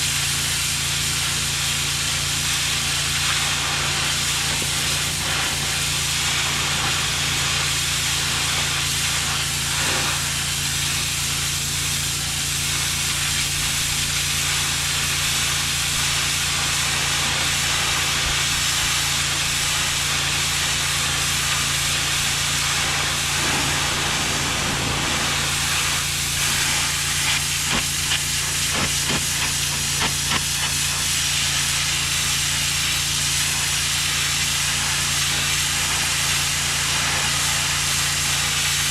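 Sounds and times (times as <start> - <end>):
pressure washer jet hissing: 0.0 - 38.9.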